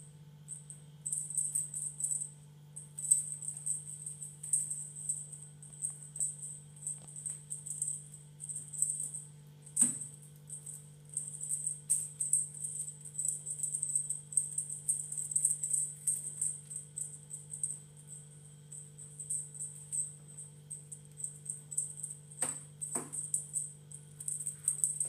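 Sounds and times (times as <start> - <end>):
steady low hum: 0.0 - 25.0
small bell jingling: 0.5 - 25.0.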